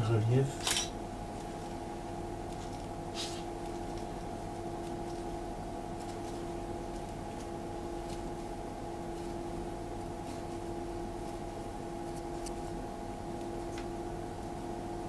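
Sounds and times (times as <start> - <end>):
low mains buzz: 0.0 - 15.0
steady mechanical hum: 0.0 - 15.0.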